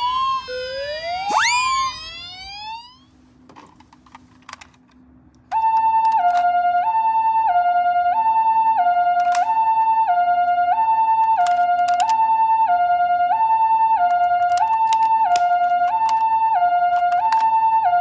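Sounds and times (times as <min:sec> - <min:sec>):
two-tone ambulance siren: 0:00.0 - 0:03.1, 0:05.5 - 0:18.0.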